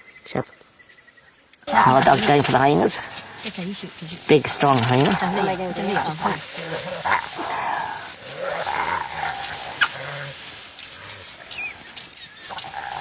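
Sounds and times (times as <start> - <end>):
small birds chirping: 0.0 - 13.0
wild dogs and hyenas calling: 1.6 - 13.0.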